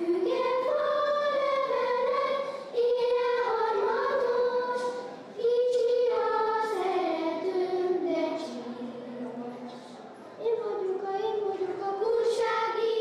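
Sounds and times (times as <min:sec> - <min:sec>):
children singing together: 0:00.0 - 0:09.8, 0:10.4 - 0:13.0.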